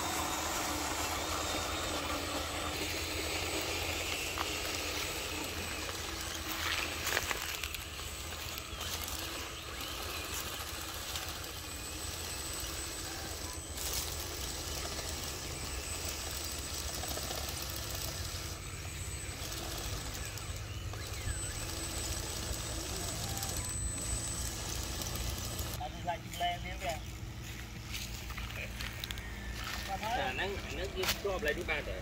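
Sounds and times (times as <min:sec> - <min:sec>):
model bulldozer running: 0:00.0 - 0:32.0.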